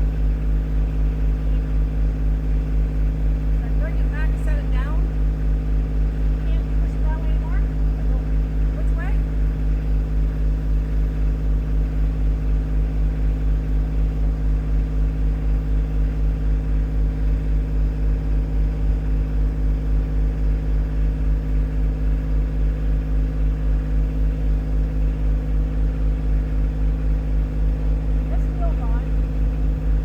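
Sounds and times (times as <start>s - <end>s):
tractor engine running: 0.0s - 21.0s, 24.0s - 30.0s.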